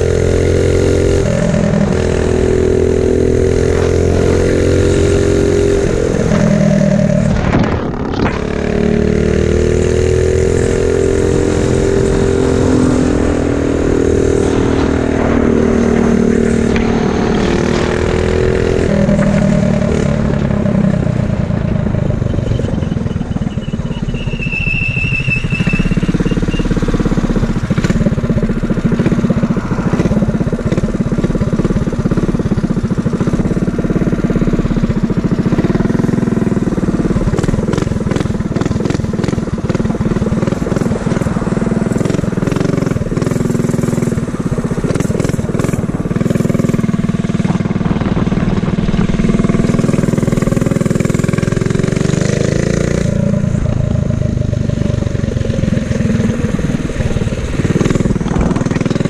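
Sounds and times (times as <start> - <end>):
small engine revving: 0.0 - 59.0.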